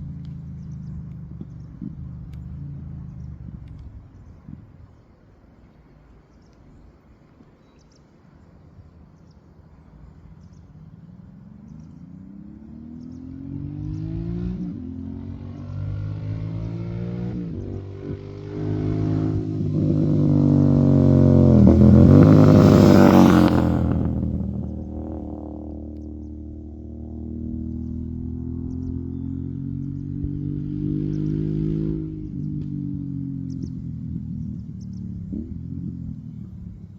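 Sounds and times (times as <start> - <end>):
motorcycle engine accelerating: 0.0 - 4.4, 10.4 - 36.9.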